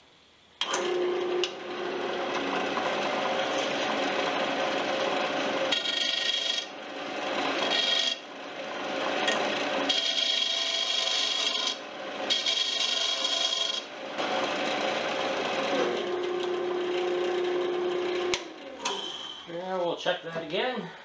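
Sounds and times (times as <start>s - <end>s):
lathe humming: 0.6s - 19.5s
chisel scraping wood on lathe: 0.7s - 18.8s.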